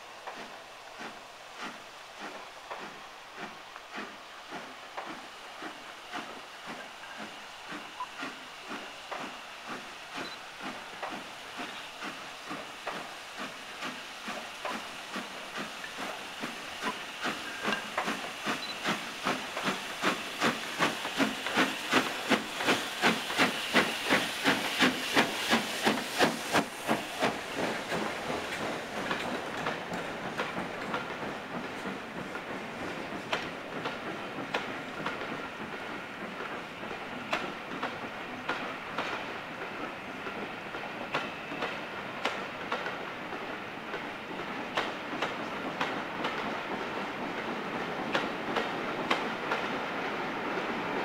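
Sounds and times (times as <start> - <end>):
hiss of steam: 0.0 - 51.0
steam locomotive exhaust beats: 0.0 - 51.0.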